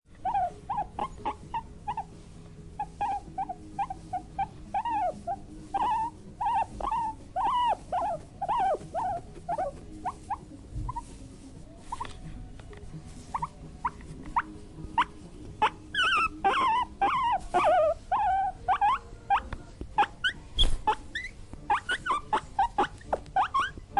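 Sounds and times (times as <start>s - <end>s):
guinea pig squeaking: 0.2s - 12.5s, 13.1s - 23.9s.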